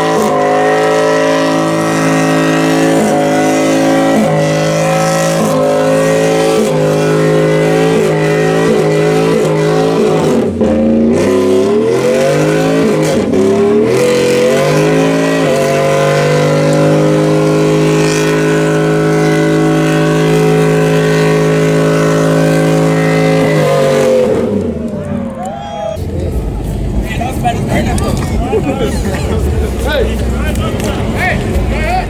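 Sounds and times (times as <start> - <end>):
vehicle engine revving: 0.0 - 32.0.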